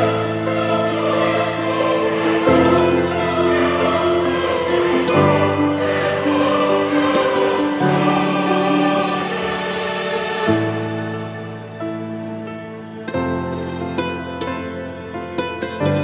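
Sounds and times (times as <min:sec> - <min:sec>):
slow held chords music: 0:00.0 - 0:16.0.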